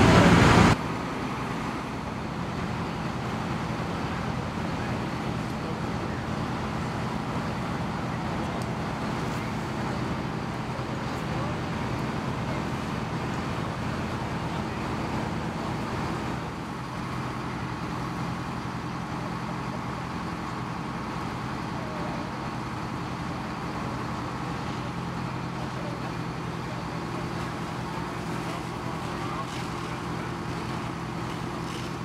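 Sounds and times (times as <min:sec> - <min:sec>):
fire engine motor droning: 0:00.0 - 0:32.0
water pump rushing noise: 0:00.0 - 0:32.0.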